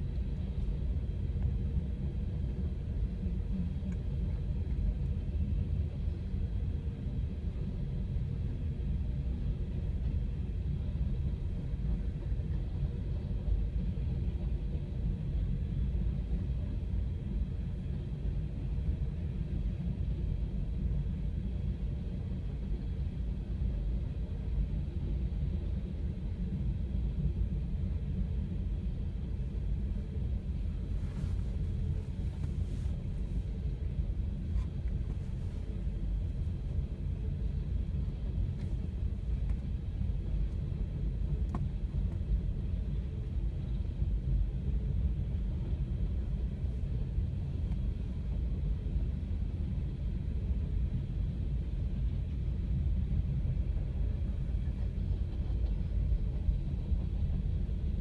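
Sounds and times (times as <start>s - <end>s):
train rumbling past: 9.8s - 58.0s.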